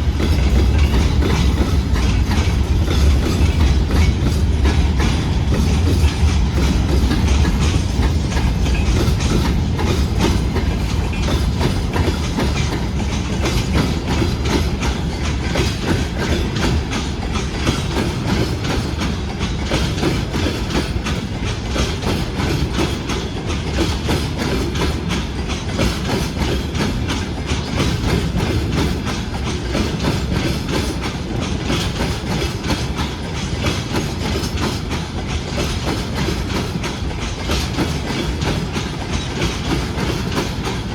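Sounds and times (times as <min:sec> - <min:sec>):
freight train rumble: 0:00.0 - 0:40.9
wheels clacking over rail joints: 0:00.0 - 0:40.9.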